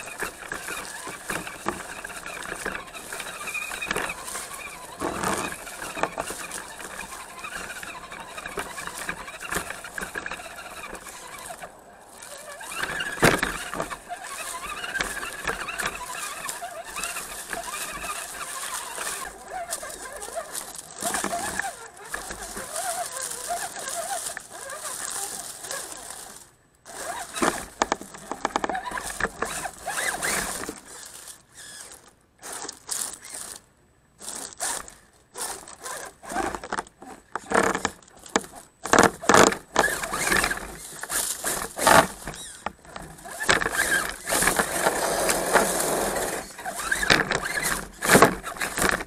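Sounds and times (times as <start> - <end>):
electric motor whining: 0.0 - 33.6, 34.2 - 49.0
tyres scraping and crunching: 0.0 - 49.0.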